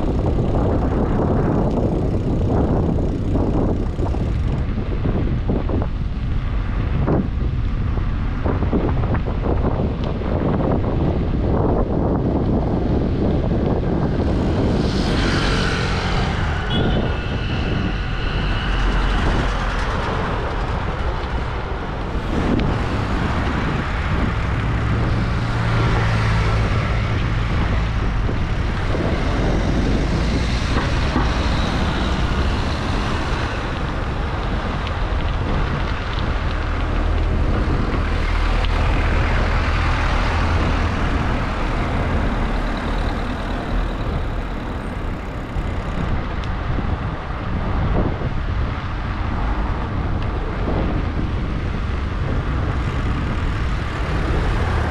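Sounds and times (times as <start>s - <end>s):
heavy vehicle engine hum: 0.0s - 54.9s
motor vehicles passing: 0.0s - 54.9s
wind on microphone: 0.0s - 54.9s.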